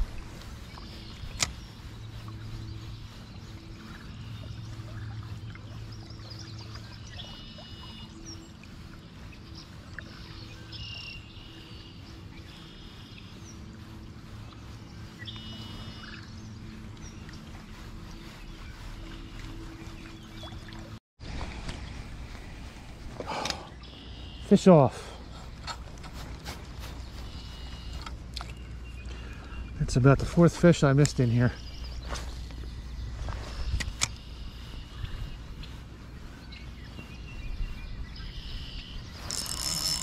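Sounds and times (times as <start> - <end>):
bird singing: 0.0 - 21.0, 23.2 - 40.0
low hum: 0.0 - 40.0.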